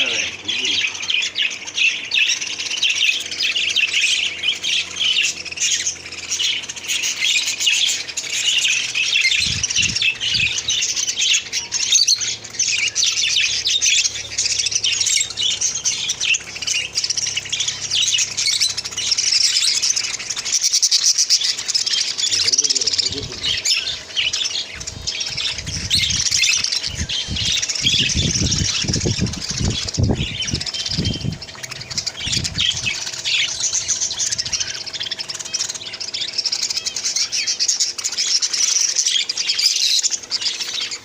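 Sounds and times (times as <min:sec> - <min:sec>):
caged birds chattering and squawking: 0:00.0 - 0:41.0.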